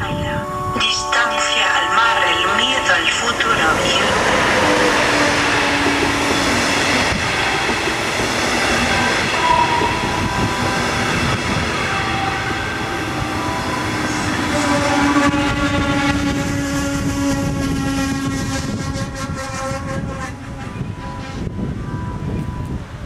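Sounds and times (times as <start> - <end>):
train wheels rumbling on rails: 1.6 - 23.0.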